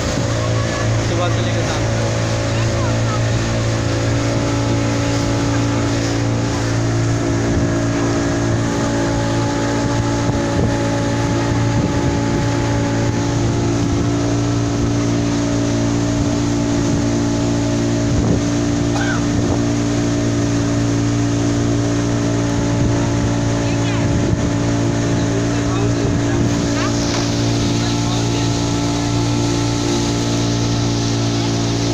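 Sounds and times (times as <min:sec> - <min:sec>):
boat engine humming: 0:00.0 - 0:31.9
water churning: 0:00.0 - 0:31.9.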